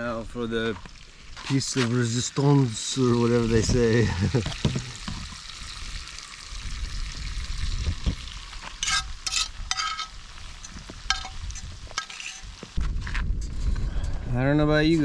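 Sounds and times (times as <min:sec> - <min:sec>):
meat sizzling in a pan: 0:00.0 - 0:12.8.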